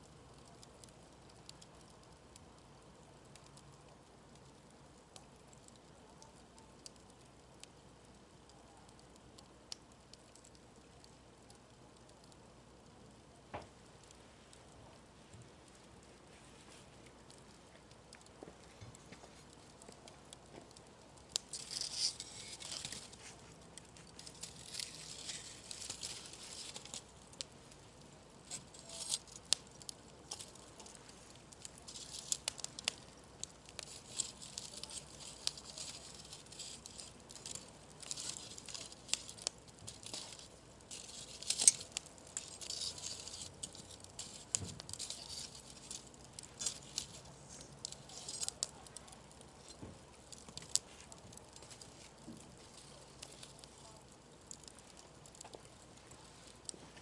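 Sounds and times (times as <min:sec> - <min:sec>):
bonfire crackling and popping: 0:00.0 - 0:57.0
fire hissing: 0:06.6 - 0:57.0.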